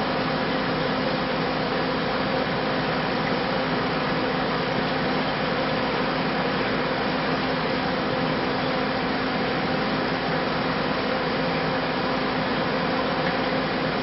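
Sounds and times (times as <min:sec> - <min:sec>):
aquarium pump humming and hissing: 0:00.0 - 0:14.0.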